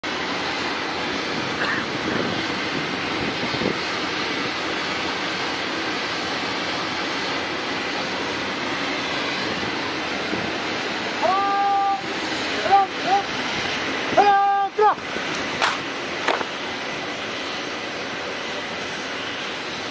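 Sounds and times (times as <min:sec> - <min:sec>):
steady rushing outdoor noise: 0:00.0 - 0:19.9.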